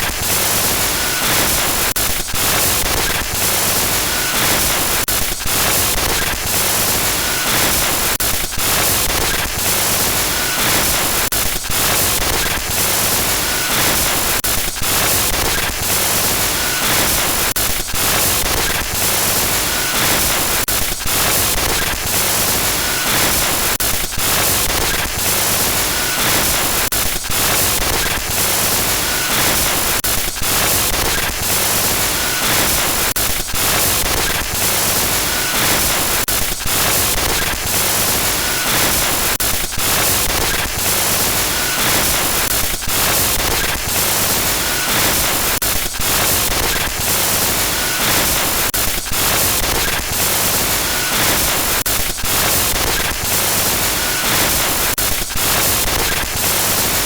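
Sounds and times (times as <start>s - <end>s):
harsh static noise: 0.0s - 57.0s.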